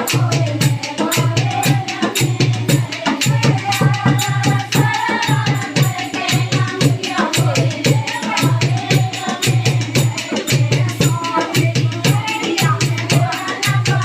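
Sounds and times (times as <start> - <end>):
driving drum beat: 0.0 - 14.0
folk singing: 0.0 - 14.0.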